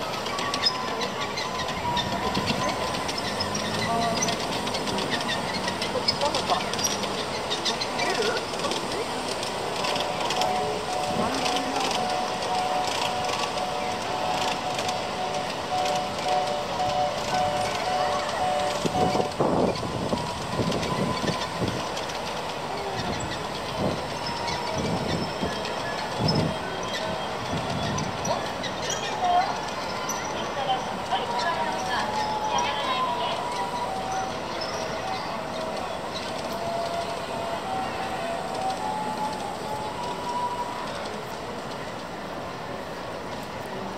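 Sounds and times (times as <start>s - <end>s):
miniature train wheels clacking: 0.0s - 43.9s.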